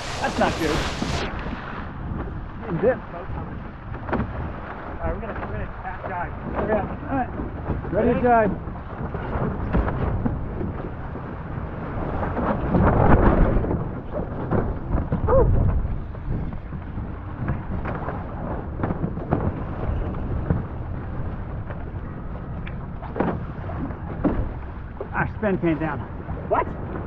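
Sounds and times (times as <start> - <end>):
water rushing and splashing: 0.0 - 27.0
wind buffeting microphone: 0.0 - 27.0.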